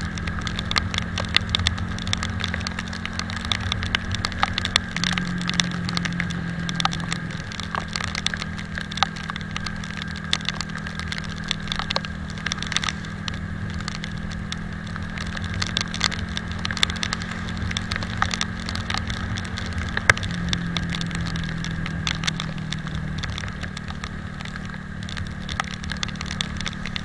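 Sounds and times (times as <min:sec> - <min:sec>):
motorcycle engine running: 0:00.0 - 0:27.0
raindrops clicking on microphone: 0:00.0 - 0:27.0.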